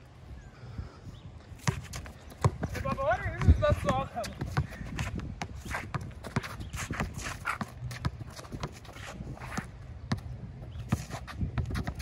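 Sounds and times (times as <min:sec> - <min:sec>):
basketball dribbling: 0:01.6 - 0:12.0
sneakers scuffing on court: 0:01.6 - 0:12.0.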